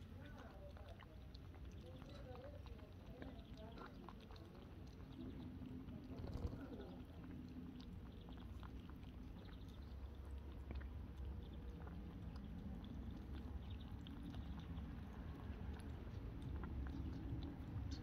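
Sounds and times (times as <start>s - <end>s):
kittens lapping milk: 0.0s - 18.0s.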